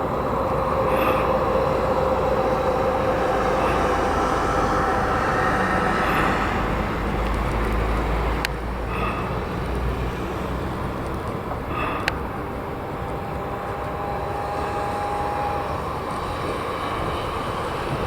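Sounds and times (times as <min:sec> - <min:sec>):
airliner engines running: 0:00.0 - 0:18.0.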